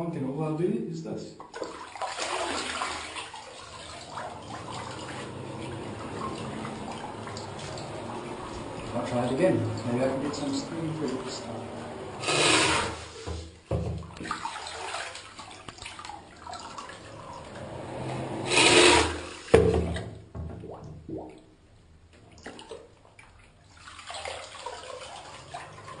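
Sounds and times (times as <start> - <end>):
water sloshing and splashing: 1.4 - 26.0.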